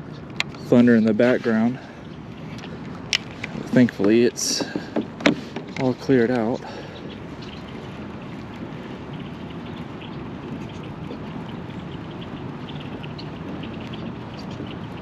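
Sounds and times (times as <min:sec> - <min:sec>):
steady low noise: 0:00.0 - 0:15.0.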